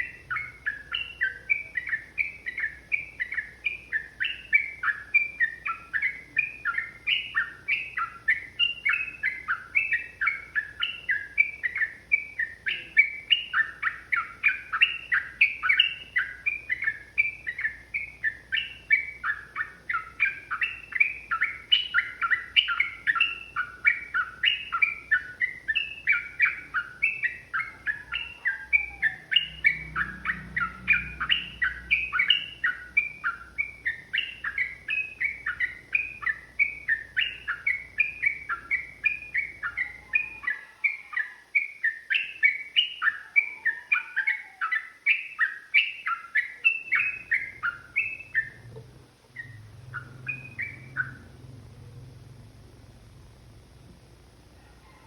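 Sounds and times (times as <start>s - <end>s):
bird singing rapid chirps: 0.0s - 55.0s.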